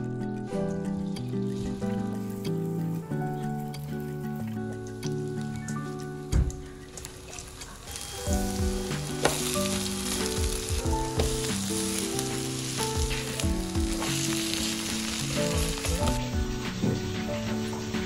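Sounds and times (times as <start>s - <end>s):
batter sizzling in hot oil: 1.1s - 5.6s, 6.2s - 18.0s.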